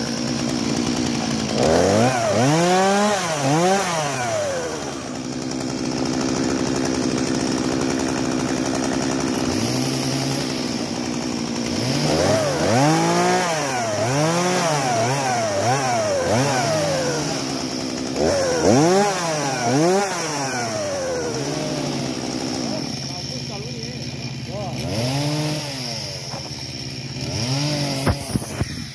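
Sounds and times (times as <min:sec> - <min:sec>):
chainsaw revving: 0:00.0 - 0:28.9.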